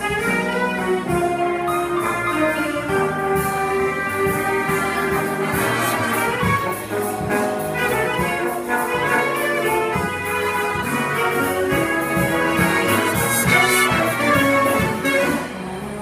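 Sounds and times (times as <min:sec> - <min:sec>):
drums keeping steady beat: 0:00.0 - 0:15.8
jazz big band playing: 0:00.0 - 0:16.0.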